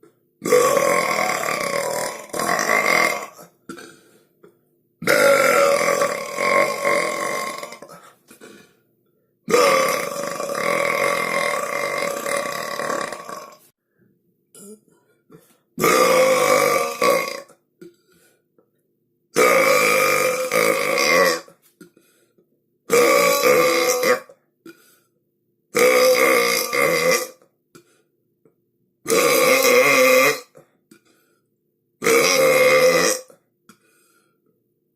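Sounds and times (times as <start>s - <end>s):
long drawn-out burps: 0.0s - 8.8s, 9.5s - 13.7s, 14.6s - 18.1s, 19.3s - 22.0s, 22.9s - 25.1s, 25.7s - 28.0s, 29.0s - 31.2s, 32.0s - 34.3s.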